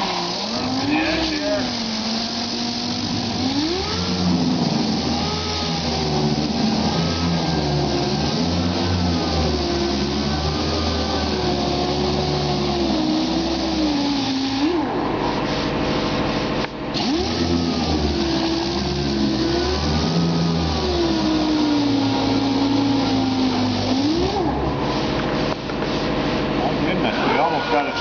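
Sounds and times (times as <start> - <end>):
air sander whining: 0.0 - 28.0.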